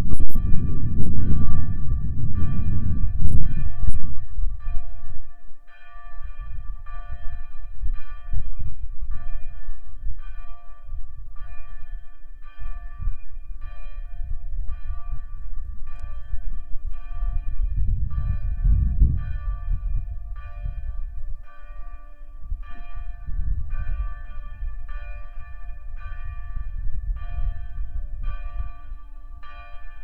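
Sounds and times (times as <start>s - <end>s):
church bell ringing: 0.0s - 30.0s.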